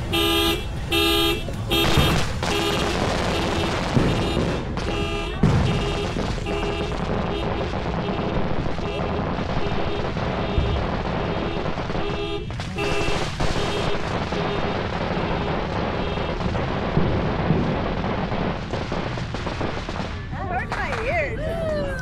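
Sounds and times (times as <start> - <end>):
distant firework bangs: 0.0 - 22.0
firework fountain hissing crackle: 0.0 - 22.0.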